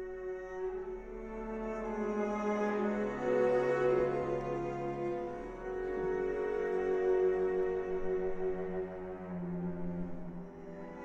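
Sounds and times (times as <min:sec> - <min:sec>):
strings bowing a sustained chord: 0:00.0 - 0:11.0.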